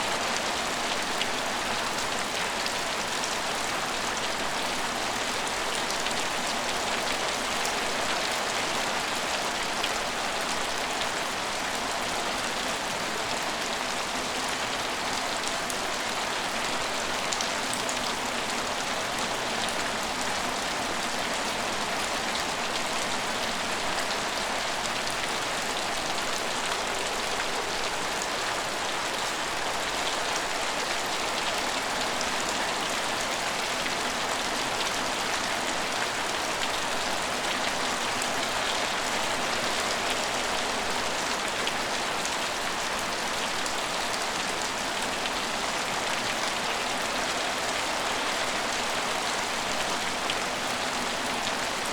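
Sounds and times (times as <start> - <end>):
rain on roofs and platforms: 0.0 - 51.9.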